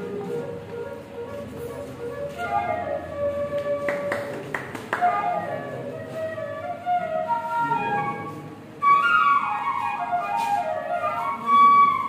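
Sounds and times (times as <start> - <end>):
slow flute melody: 0.0 - 12.0.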